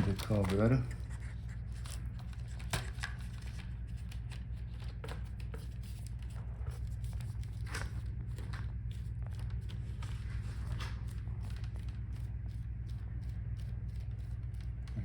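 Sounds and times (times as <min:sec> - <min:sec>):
clicks and rustles of handling: 0:00.0 - 0:15.0
steady low hum: 0:00.0 - 0:15.0.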